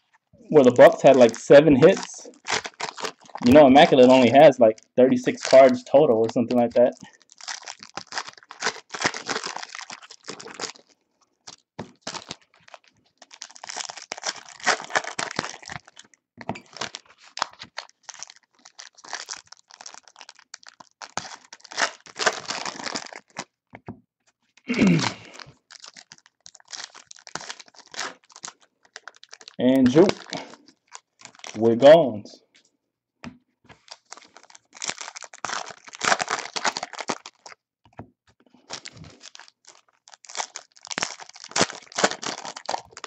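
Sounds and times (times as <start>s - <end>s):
foil packs tearing and crinkling: 0.6s - 23.5s, 24.7s - 31.6s, 33.8s - 37.6s, 38.6s - 43.0s.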